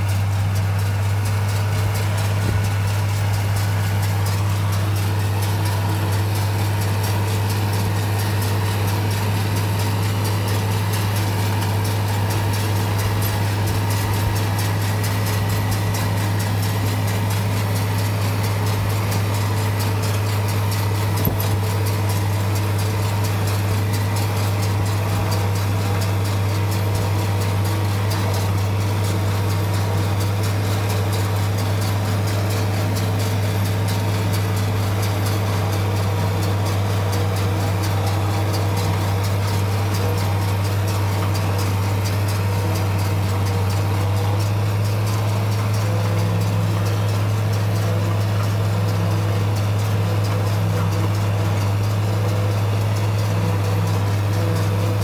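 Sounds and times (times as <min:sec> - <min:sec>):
forage chopper chopping hay: 0:00.0 - 0:55.0
tractor diesel engine under load: 0:00.0 - 0:55.0.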